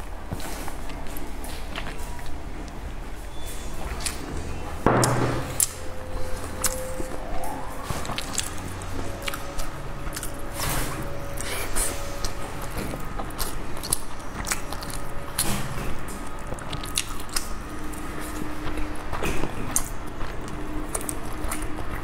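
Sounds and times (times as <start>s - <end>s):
wet chewing: 0.0s - 4.8s, 5.5s - 22.0s.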